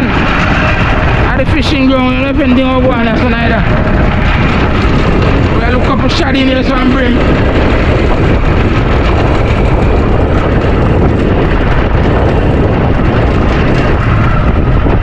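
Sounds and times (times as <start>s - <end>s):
boat engine: 0.0s - 15.0s
wind buffeting microphone: 0.0s - 15.0s.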